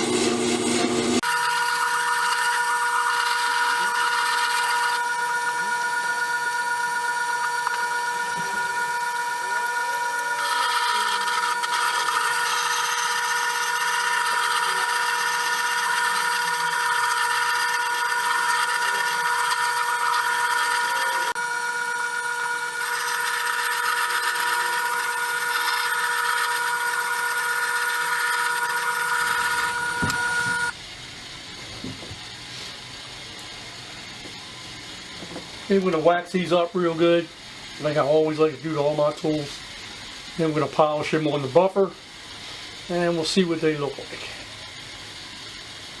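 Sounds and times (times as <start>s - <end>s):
sharpening machine whining: 0.0s - 46.0s.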